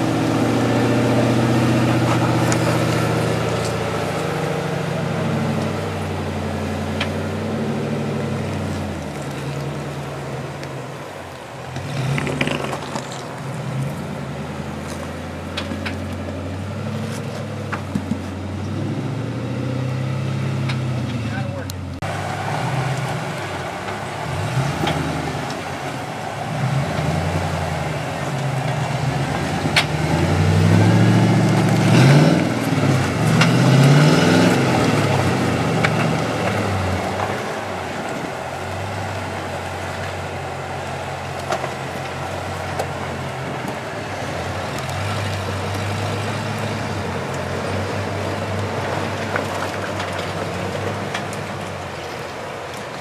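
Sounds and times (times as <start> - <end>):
jeep engine revving: 0.0 - 53.0.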